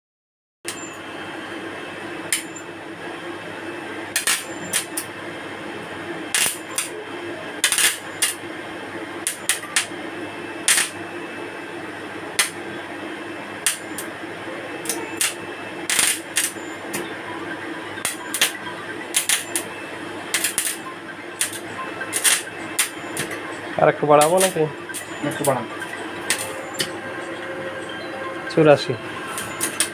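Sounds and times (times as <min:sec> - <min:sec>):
welding machine humming: 0:00.7 - 0:29.9
welding arc crackling and popping: 0:02.2 - 0:02.6, 0:03.9 - 0:29.9.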